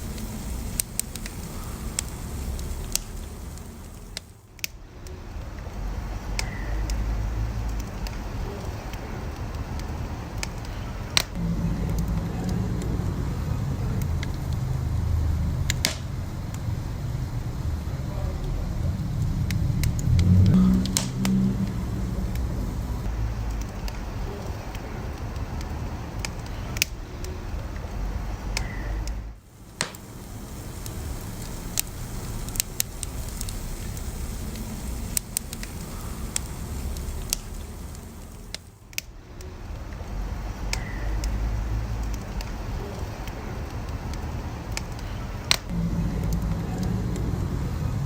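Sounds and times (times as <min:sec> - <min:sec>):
fire crackles and pops: 0:00.0 - 0:48.0
wood fire rumbling: 0:00.0 - 0:48.0.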